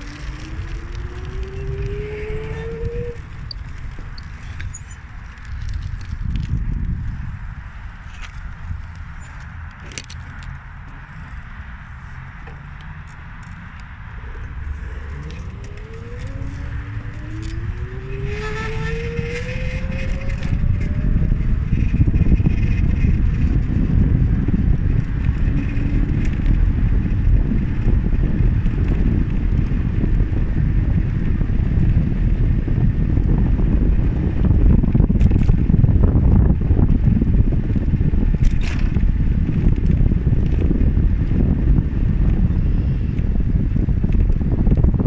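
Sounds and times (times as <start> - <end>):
pitched whine: 0.0 - 37.2
rolling road noise: 0.0 - 45.0
wind buffeting microphone: 0.0 - 45.0.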